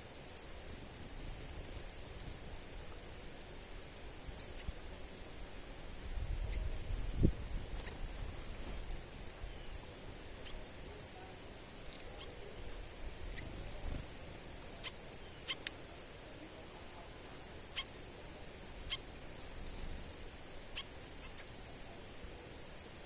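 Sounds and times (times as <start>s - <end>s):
small birds chip calls: 0.0s - 5.5s, 6.4s - 23.0s
low outdoor background noise: 0.0s - 23.0s.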